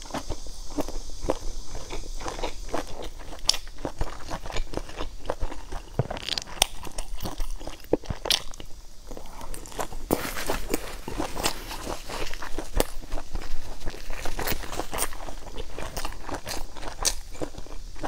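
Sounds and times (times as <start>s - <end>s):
close chewing with wet smacks: 0.0s - 10.1s, 10.7s - 18.0s.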